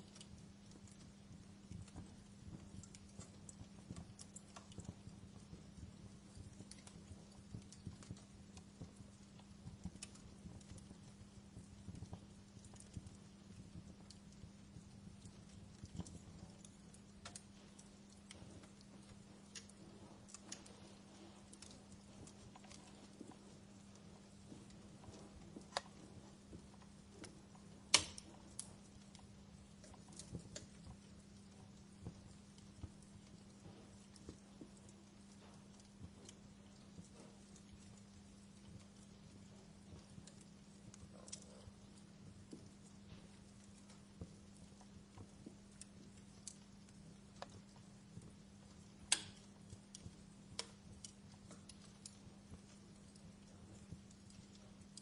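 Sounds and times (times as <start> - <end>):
low steady hum: 0.0 - 55.0
wood fire crackling: 0.0 - 55.0.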